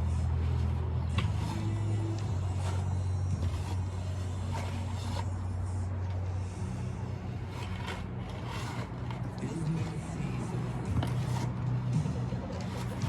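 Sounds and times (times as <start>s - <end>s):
concrete mixed by hand scraping: 0.0s - 13.0s
low motor hum: 0.0s - 13.0s.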